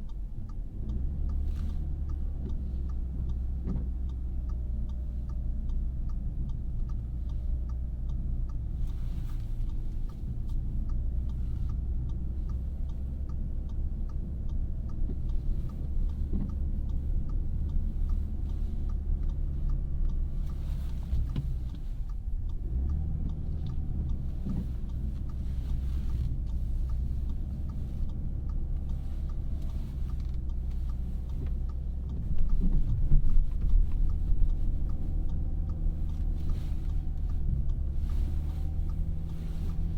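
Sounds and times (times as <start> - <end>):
car cabin road and engine rumble: 0.0 - 39.9
faint ticking: 0.0 - 39.9.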